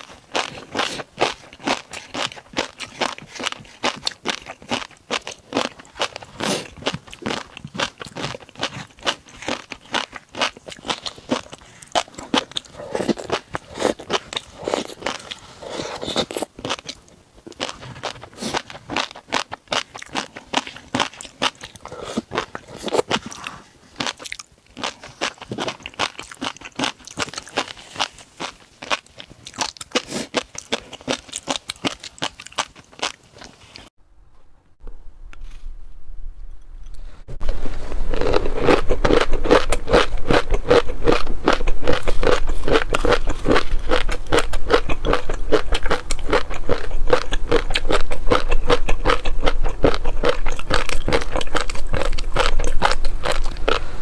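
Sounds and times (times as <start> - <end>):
person crunching food: 0.0 - 33.9, 36.8 - 54.0.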